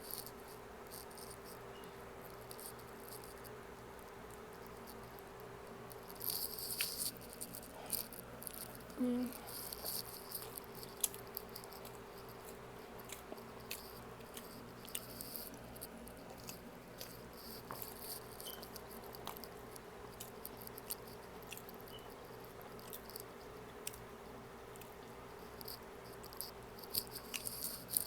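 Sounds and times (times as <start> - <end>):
faint steady hum: 0.0 - 28.0
person chewing food: 2.2 - 28.0.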